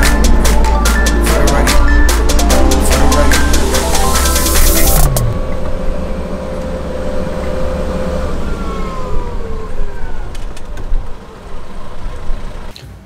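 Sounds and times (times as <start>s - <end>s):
forklift whine dropping in pitch: 0.0s - 11.1s
forklift engine rumbling: 0.0s - 12.7s.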